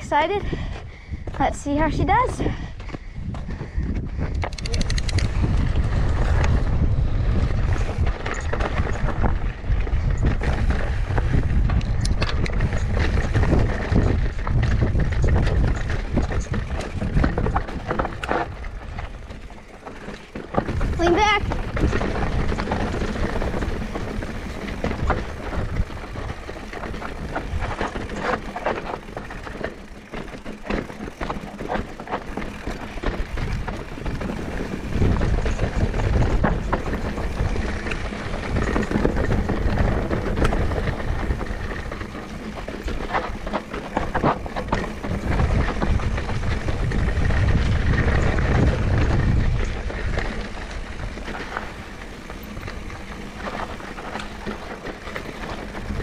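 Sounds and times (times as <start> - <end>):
bike rattling over bumps: 0.0 - 56.0
wind rumble on microphone: 0.0 - 56.0
tyres rolling over dirt: 4.6 - 56.0.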